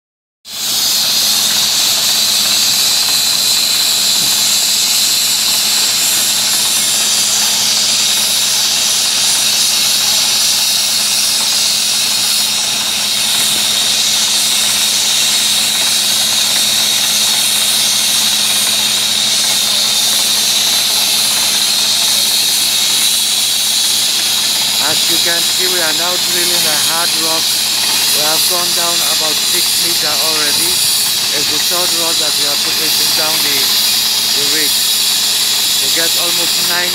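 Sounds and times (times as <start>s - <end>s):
drilling rig hiss: 0.5s - 36.9s.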